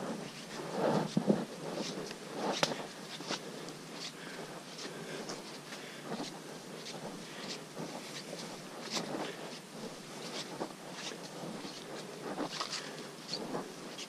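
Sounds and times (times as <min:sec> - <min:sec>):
clothing and backpack rustling: 0:00.0 - 0:14.0
footsteps on dirt trail: 0:00.0 - 0:14.0.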